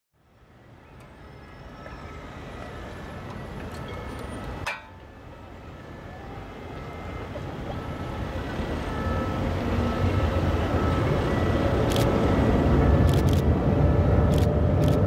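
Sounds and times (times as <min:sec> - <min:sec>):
city street traffic noise: 0:00.2 - 0:15.0.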